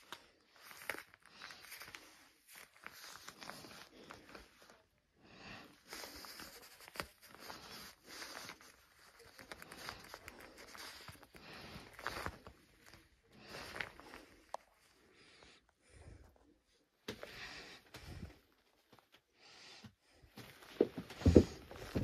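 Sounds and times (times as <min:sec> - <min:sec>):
vinyl fabric rustling and crinkling: 0:00.0 - 0:15.4, 0:16.2 - 0:19.4.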